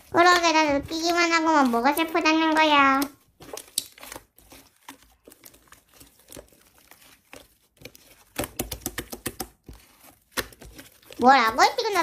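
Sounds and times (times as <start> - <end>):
slime crackling and popping: 0.0 - 9.6.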